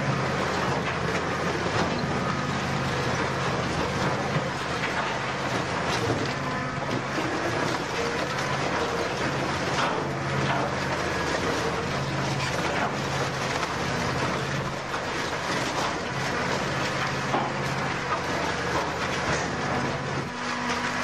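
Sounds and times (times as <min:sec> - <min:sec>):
low machine drone: 0:00.0 - 0:21.0.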